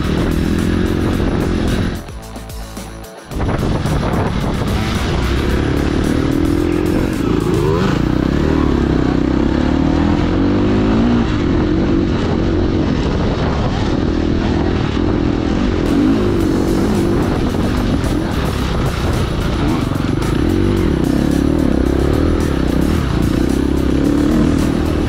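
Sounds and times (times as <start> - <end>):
off-road vehicle engine running: 0.0 - 25.0
wind and ride noise: 0.0 - 25.0.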